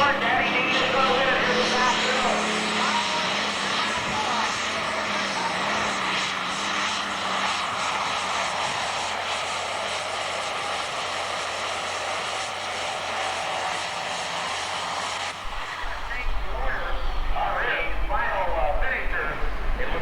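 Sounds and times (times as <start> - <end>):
tractor diesel engine at full power: 0.0 - 20.0.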